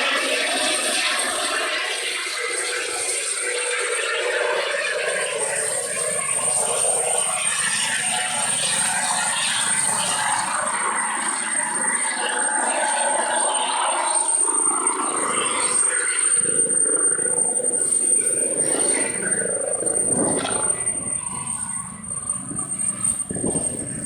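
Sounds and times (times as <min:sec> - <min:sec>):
helicopter rotor and turbine: 0:00.0 - 0:24.0
high turbine whine: 0:00.0 - 0:24.0.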